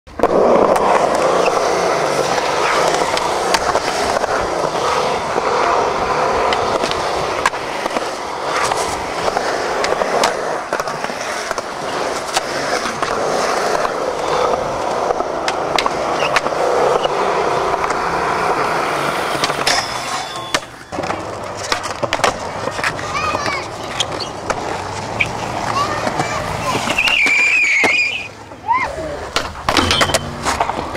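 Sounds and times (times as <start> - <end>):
skateboard clacks: 0.1 - 30.9
skateboard wheels rolling on concrete: 0.1 - 30.9.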